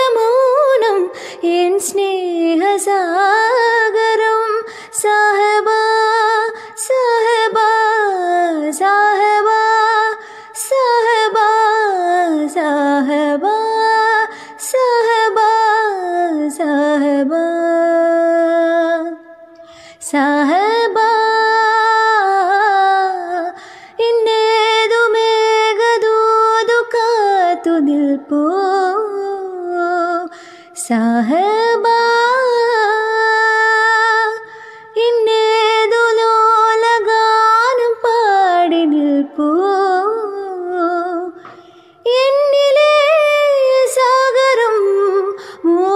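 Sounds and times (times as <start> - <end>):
woman singing slow melody: 0.0 - 45.9.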